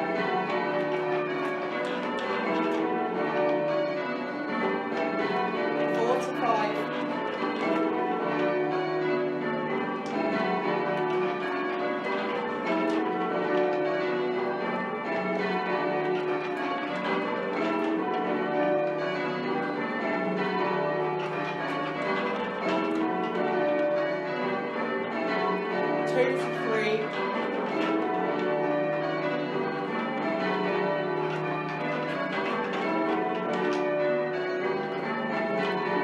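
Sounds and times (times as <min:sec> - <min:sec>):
church bells ringing changes: 0:00.0 - 0:36.0.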